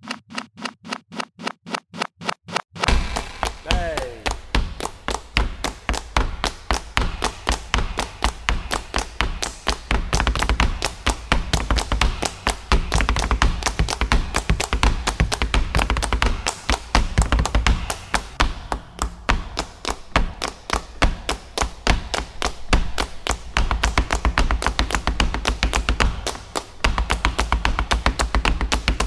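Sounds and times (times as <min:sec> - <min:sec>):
rapid percussive tapping: 0:00.0 - 0:29.0.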